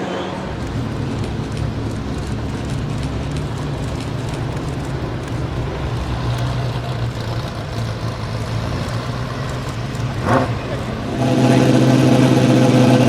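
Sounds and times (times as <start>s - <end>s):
car engine idling: 0.4s - 13.0s.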